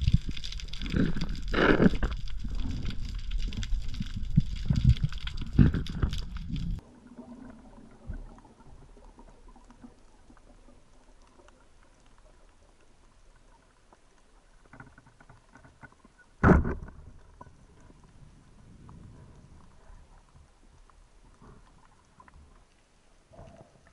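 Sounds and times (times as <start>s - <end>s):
faint underwater crackling: 0.0s - 23.9s.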